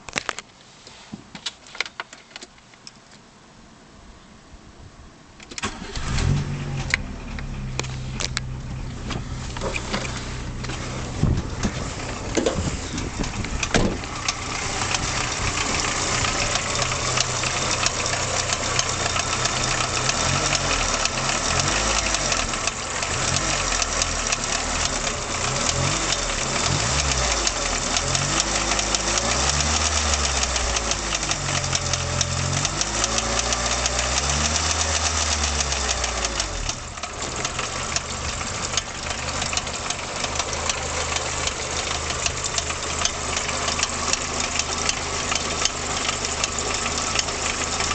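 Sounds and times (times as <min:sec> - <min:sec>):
car engine knocking: 0:09.0 - 0:47.9.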